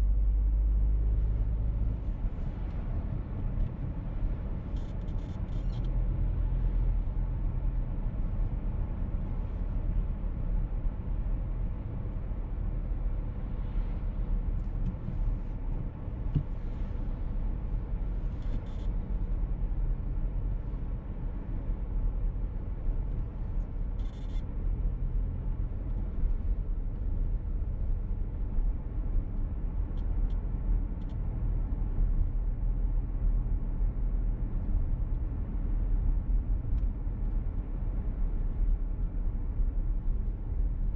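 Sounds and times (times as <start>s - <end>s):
road and engine rumble in car: 0.0s - 40.9s.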